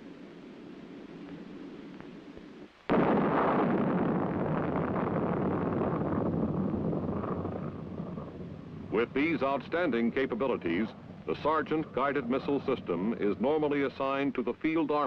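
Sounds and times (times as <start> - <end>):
faint film hiss: 0.0 - 15.0.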